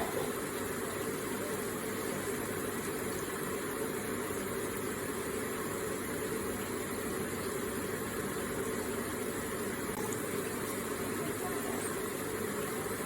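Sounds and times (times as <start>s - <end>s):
water feature splashing: 0.0s - 13.0s.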